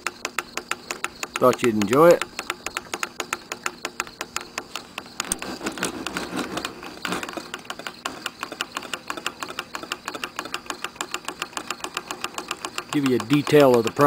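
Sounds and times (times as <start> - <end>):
engine parts clicking: 0.0 - 14.0.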